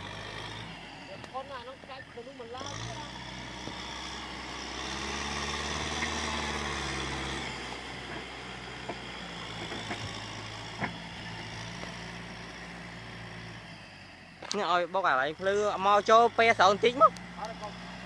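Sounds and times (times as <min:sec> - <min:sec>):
tractor engine working: 0:00.0 - 0:18.0.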